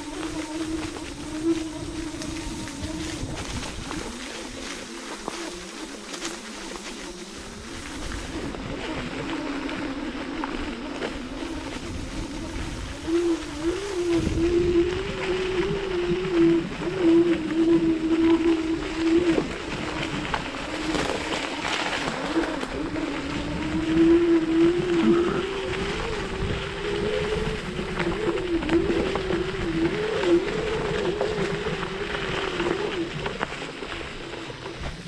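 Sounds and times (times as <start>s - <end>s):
electric scooter motor whining: 0.0s - 35.0s.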